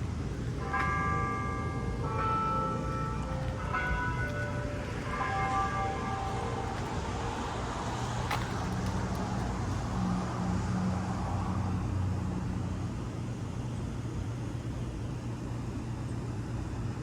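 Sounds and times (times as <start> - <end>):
vehicle engine running: 0.0 - 14.2
street traffic noise: 0.0 - 17.0.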